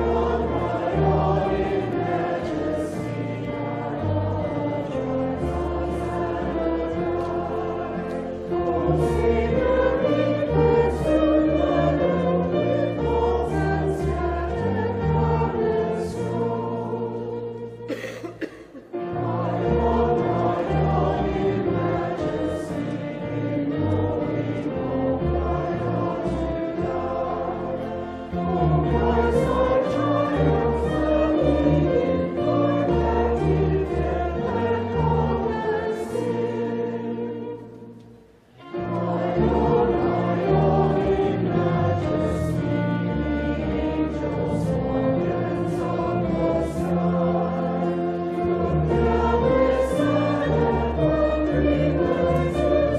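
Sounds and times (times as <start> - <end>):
choir singing held chords: 0.0 - 52.9.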